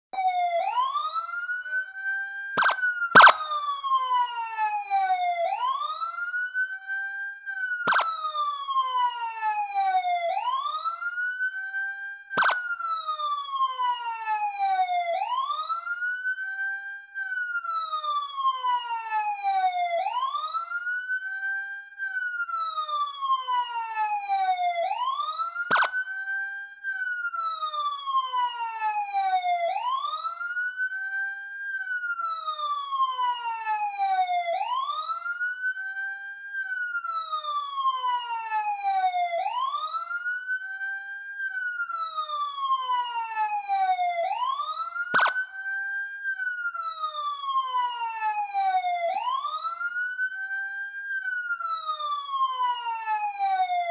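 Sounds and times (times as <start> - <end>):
police siren wailing: 0.1 - 53.9.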